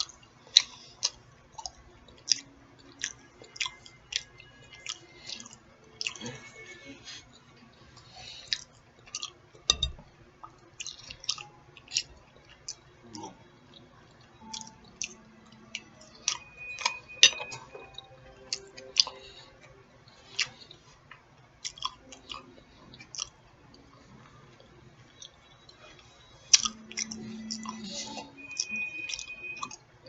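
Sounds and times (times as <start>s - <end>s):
wet chewing: 0.0s - 6.4s, 7.9s - 9.6s, 10.4s - 23.9s, 24.5s - 29.8s.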